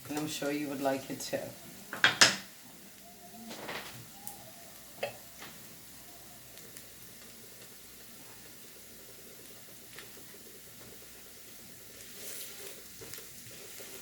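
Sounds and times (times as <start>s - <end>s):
garlic sizzling in a frying pan: 0.0s - 14.0s
stirring noises: 2.7s - 14.0s.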